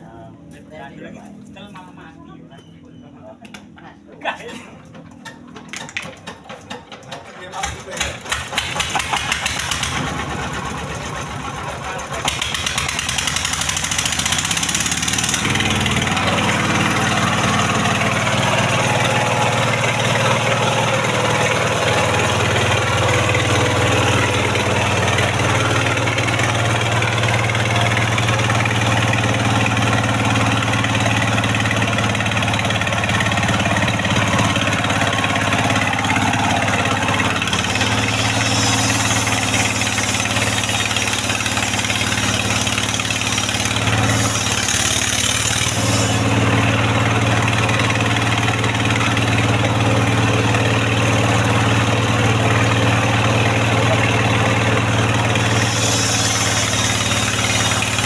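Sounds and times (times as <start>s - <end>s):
engine starting up: 4.4s - 52.5s, 53.6s - 58.0s.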